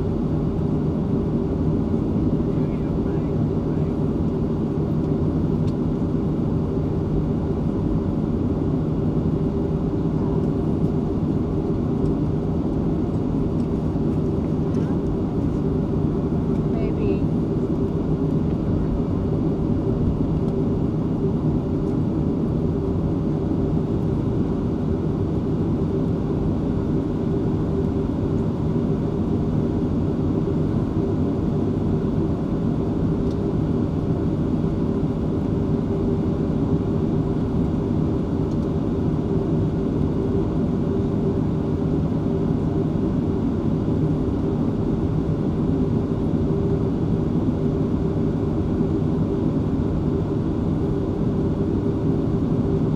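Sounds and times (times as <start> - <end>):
jet engines idling: 0.0 - 52.9.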